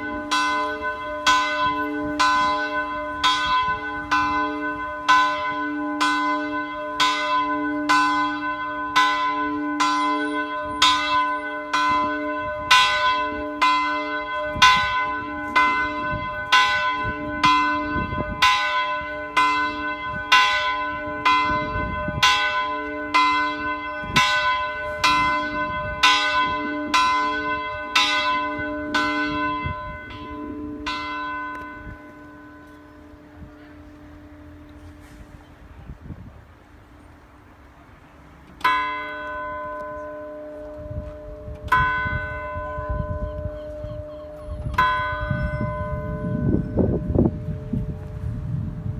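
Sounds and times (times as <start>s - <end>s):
church bell ringing: 0.0s - 35.5s, 38.5s - 48.9s.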